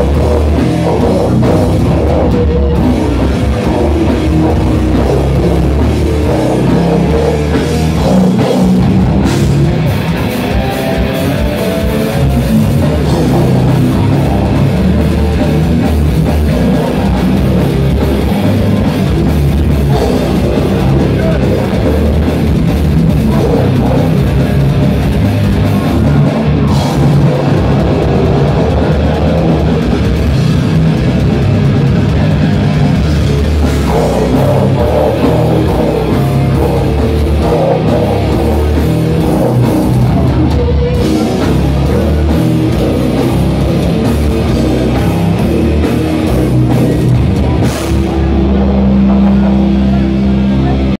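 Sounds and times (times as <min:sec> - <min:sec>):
bass guitar: 0:00.0 - 0:50.9
distorted electric guitar: 0:00.0 - 0:50.9
drum kit: 0:00.0 - 0:50.9.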